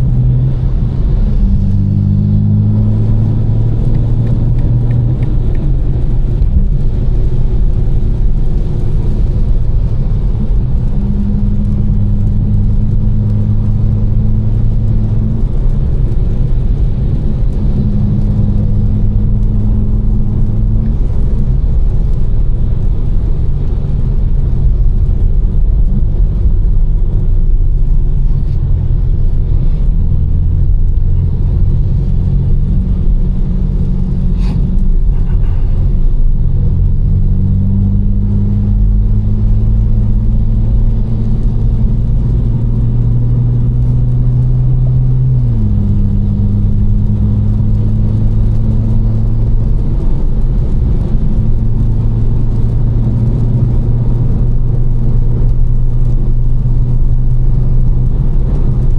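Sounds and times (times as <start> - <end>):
car engine droning: 0.0 - 58.9
road noise: 0.0 - 58.9.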